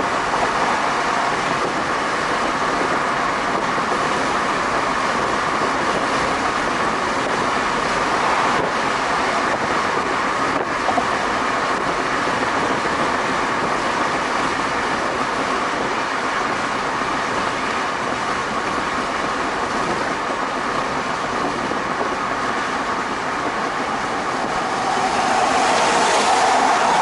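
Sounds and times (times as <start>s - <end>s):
road and tyre noise: 0.0s - 27.0s
wind noise in car: 0.0s - 27.0s.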